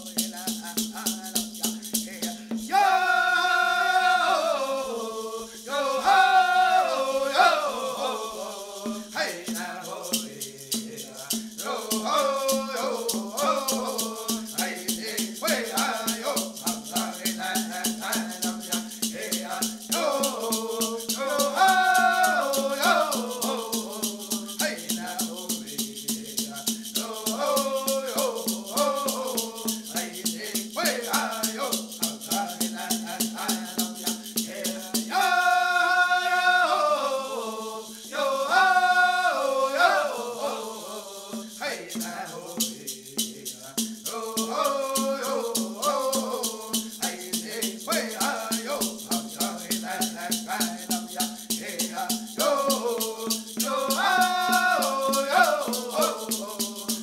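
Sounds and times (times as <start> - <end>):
rattle shaken in a beat: 0.0 - 57.0
voices singing: 0.0 - 57.0.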